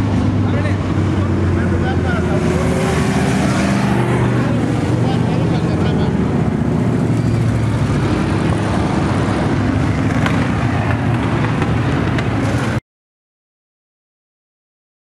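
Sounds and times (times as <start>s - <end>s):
race car engines droning: 0.0s - 12.8s.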